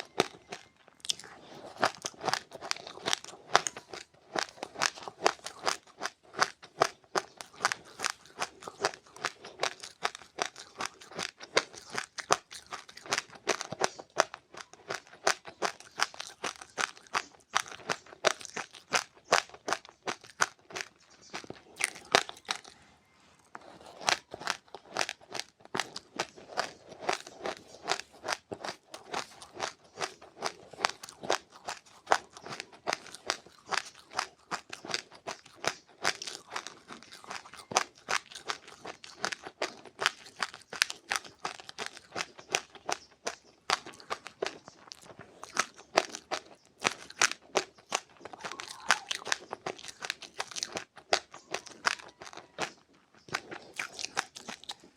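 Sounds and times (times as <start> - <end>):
chewing crunchy seeds: 0.0 - 54.9.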